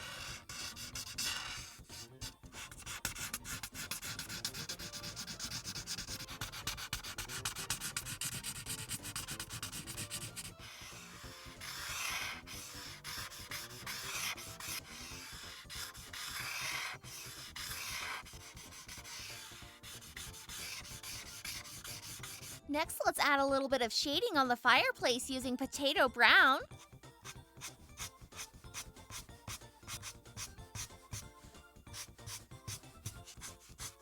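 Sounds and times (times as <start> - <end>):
marker rubbing on paper: 0.0 - 22.9, 26.8 - 34.0.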